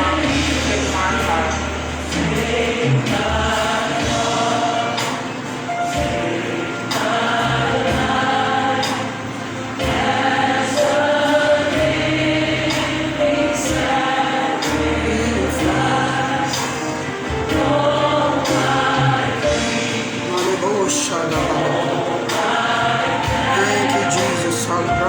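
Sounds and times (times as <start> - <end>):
gospel choir singing over a beat: 0.0 - 25.0.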